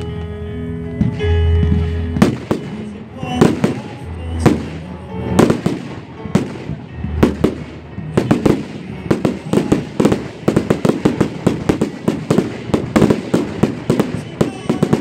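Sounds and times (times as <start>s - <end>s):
fireworks bangs and crackles: 1.0s - 15.0s.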